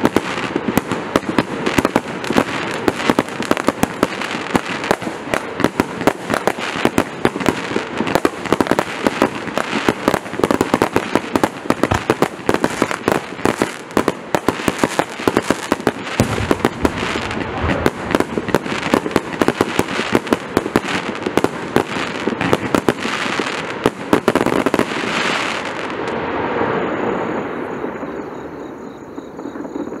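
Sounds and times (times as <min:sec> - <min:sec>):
firework barrage of bangs: 0:00.0 - 0:30.0.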